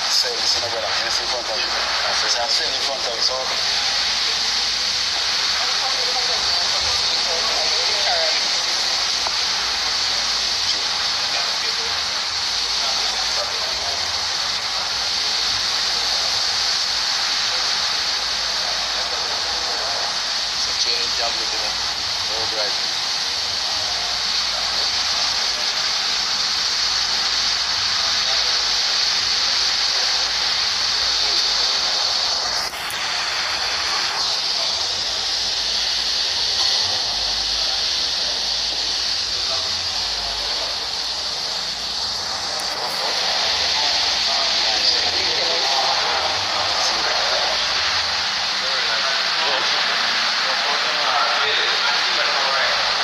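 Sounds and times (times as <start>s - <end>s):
steady bright hiss: 0.0s - 53.0s.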